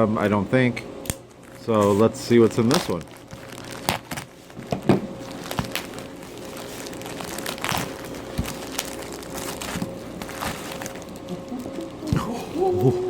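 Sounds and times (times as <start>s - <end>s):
faint steady hum: 0.0s - 13.0s
packaging crinkling and rustling: 1.4s - 12.2s.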